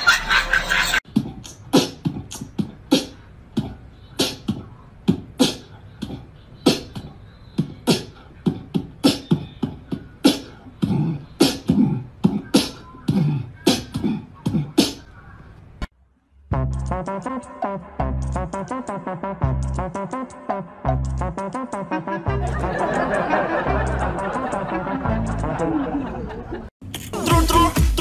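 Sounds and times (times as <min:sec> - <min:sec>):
beatboxing mouth percussion: 0:01.0 - 0:15.1, 0:16.6 - 0:22.6, 0:23.6 - 0:25.7, 0:26.8 - 0:28.0.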